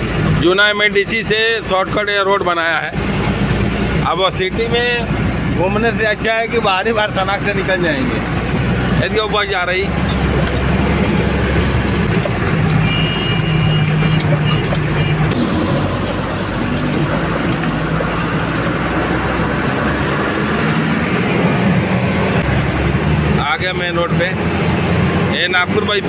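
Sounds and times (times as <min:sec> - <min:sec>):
truck diesel engine under load: 0:00.0 - 0:26.0.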